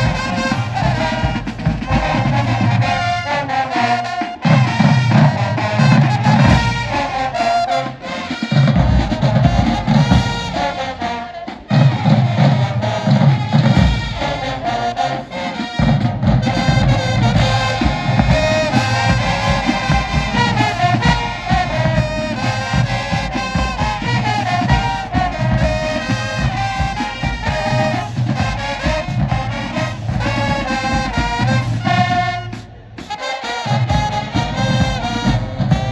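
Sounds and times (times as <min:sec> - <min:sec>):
brass horns: 0:00.0 - 0:35.9
driving drum beat: 0:00.0 - 0:35.9.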